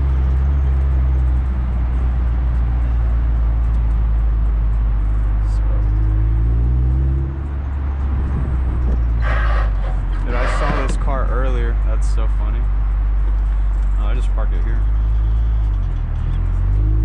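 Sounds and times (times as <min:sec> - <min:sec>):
car engine at low speed: 0:00.0 - 0:17.0.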